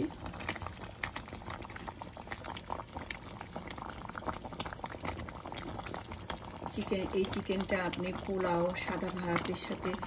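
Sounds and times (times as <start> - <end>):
curry bubbling and popping: 0.0 - 10.0.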